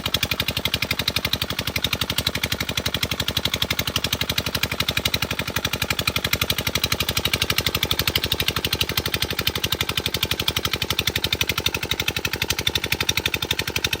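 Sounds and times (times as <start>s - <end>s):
old engine driving water pump: 0.0s - 14.0s.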